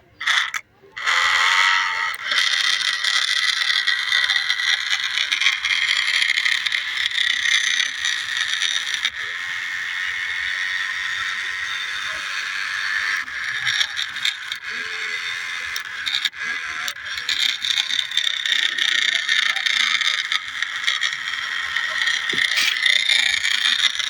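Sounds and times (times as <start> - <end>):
clicks and scrapes: 0.2 - 24.0
toy electric motor whirring: 0.2 - 24.0.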